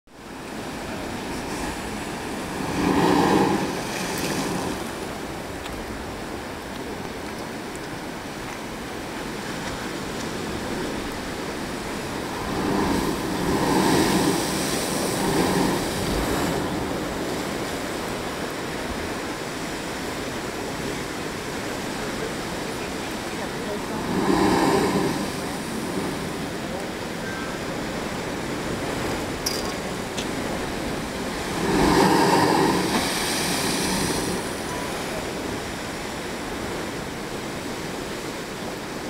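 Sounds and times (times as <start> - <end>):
ocean surf on rocks: 0.1 - 39.0.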